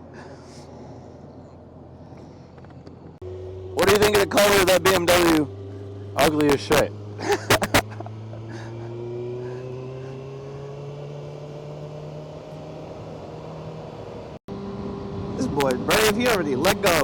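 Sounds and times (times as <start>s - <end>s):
motorcycle engine running: 1.2s - 17.0s.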